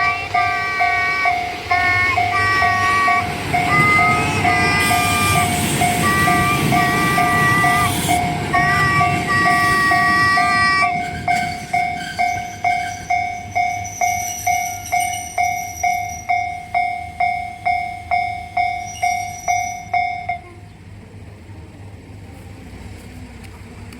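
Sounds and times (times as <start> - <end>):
level crossing alarm ringing: 0.0 - 20.6
train running past: 0.0 - 23.9.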